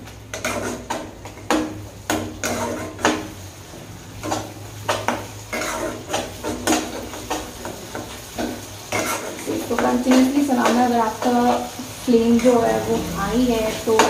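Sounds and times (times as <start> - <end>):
spatula scraping a pan: 0.3 - 14.0.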